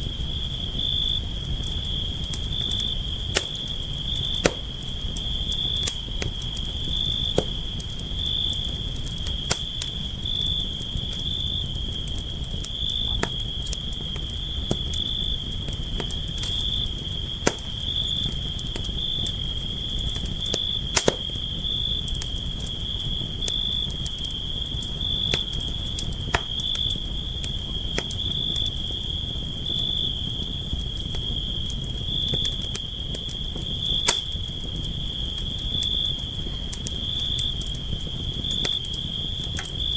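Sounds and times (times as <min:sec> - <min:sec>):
campfire crackling and popping: 0:00.0 - 0:39.9
crickets trilling: 0:00.0 - 0:39.9.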